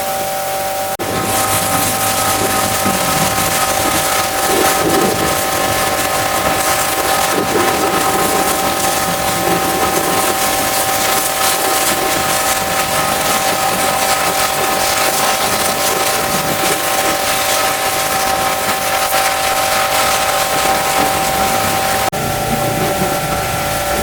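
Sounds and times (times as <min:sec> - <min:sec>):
pressure washer machine whine: 0:00.0 - 0:24.0
pressure washer water jet hissing: 0:00.0 - 0:24.0.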